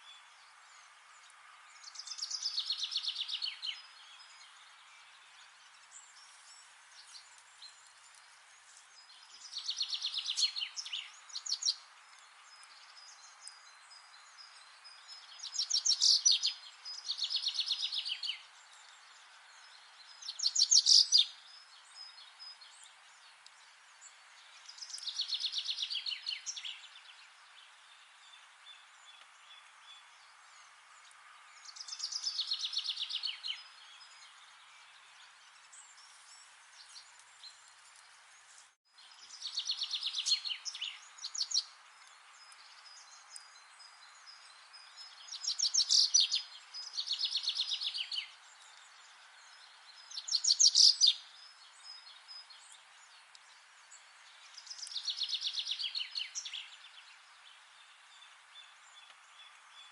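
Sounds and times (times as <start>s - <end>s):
faint background hiss: 0.0s - 59.9s
songbird singing trilled phrases: 1.6s - 23.4s, 24.0s - 37.7s, 39.0s - 59.9s.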